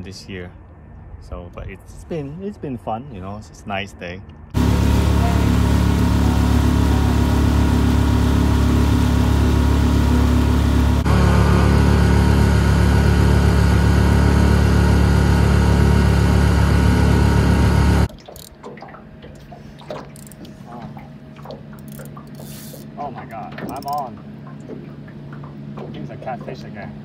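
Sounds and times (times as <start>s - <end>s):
outboard motor running: 4.5s - 27.0s.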